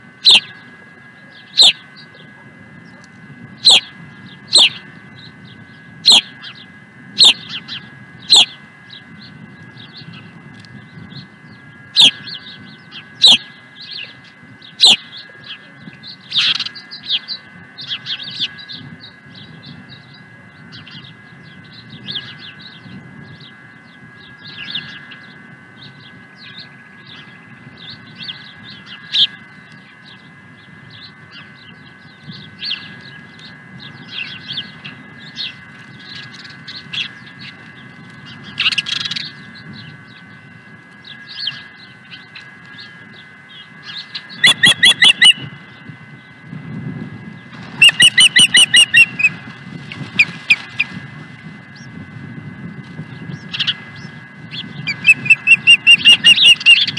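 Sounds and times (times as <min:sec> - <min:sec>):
osprey chirping: 0:00.0 - 0:46.5, 0:47.1 - 0:52.1, 0:52.7 - 0:56.9
low wind rumble: 0:00.0 - 0:56.9.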